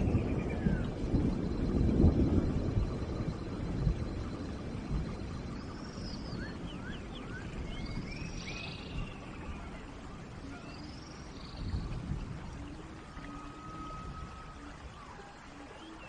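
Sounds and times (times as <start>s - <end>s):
birds chirping and whistling: 0.0s - 3.4s, 4.2s - 16.0s
steady rain falling: 0.0s - 16.0s.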